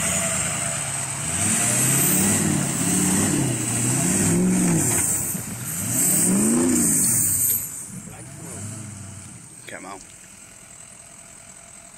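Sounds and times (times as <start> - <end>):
diesel engine revving: 0.0 - 11.9.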